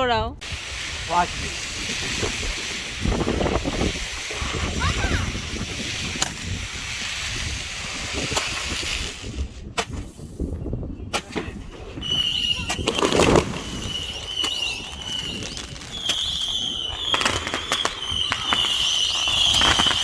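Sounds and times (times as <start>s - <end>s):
firework high whistle: 0.4s - 10.4s, 11.3s - 20.0s
loud firework burst: 0.4s - 10.4s, 11.2s - 20.0s
fireworks hissing spray: 0.4s - 10.6s, 11.2s - 20.0s
firework pops: 0.4s - 20.0s.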